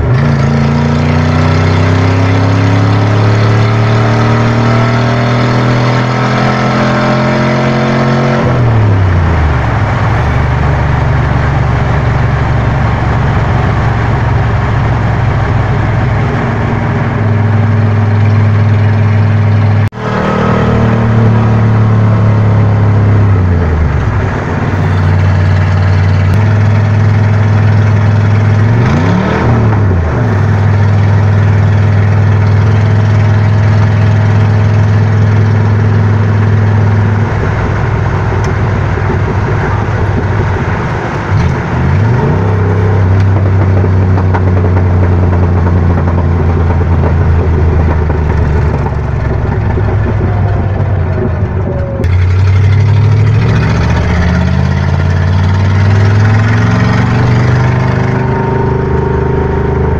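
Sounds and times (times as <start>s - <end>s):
car engine exhaust note: 0.0s - 59.9s.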